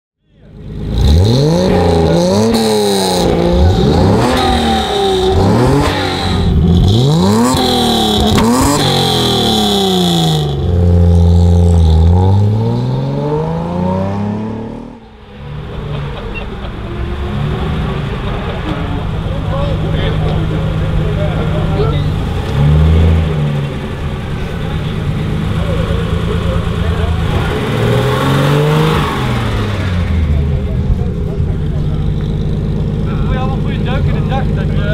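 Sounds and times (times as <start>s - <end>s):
car engine revving: 0.4s - 34.9s.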